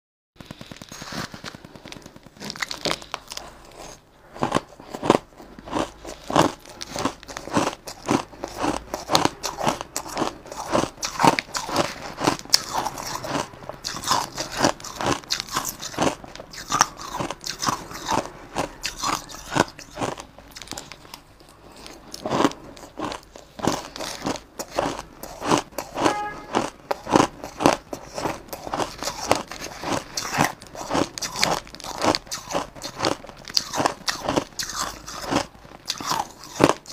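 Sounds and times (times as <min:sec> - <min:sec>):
ice being chewed: 0:00.4 - 0:36.9.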